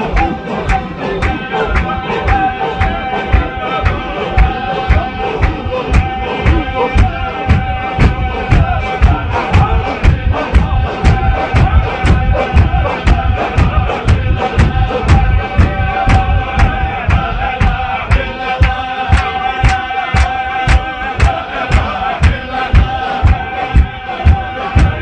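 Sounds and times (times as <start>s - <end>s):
crowd chanting: 0.0s - 25.0s
loud sharp beats: 0.0s - 25.0s.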